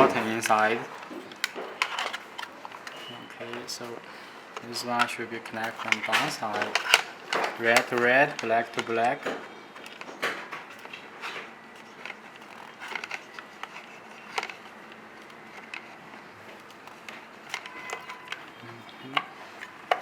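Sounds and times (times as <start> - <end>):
plastic parts clicking: 0.0 - 3.9, 4.6 - 20.0.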